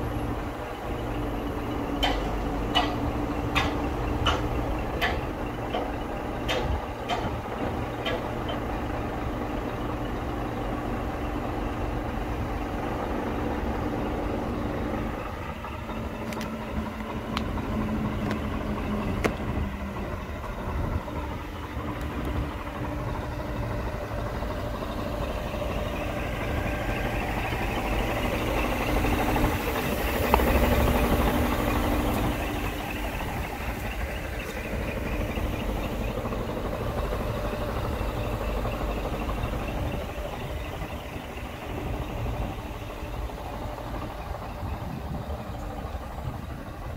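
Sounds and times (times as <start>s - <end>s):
truck diesel engine running: 0.0s - 46.9s.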